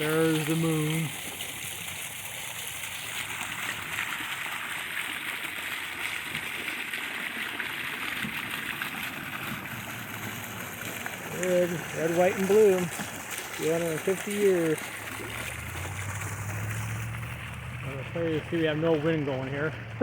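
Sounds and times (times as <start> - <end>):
water fountain splashing: 0.0 - 20.0.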